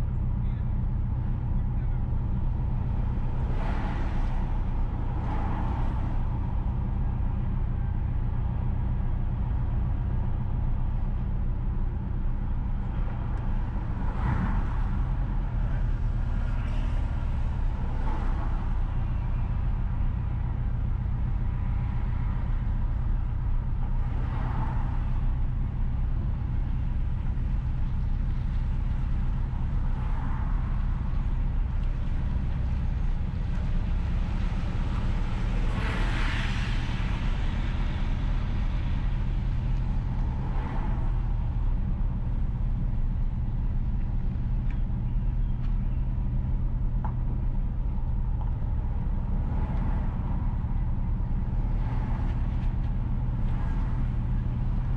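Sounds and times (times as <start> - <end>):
car engine and tyres drone: 0.0 - 54.9
passing vehicles: 0.0 - 54.9.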